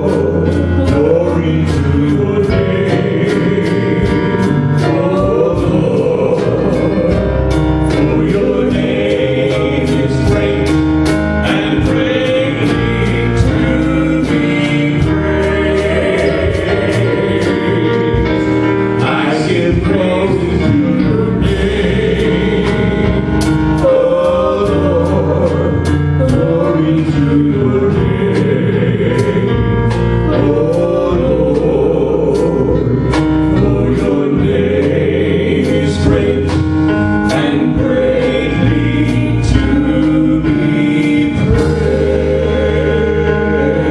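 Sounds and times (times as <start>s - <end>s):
choir singing: 0.0s - 43.9s
drum beat: 0.0s - 43.9s
gospel band playing: 0.0s - 43.9s.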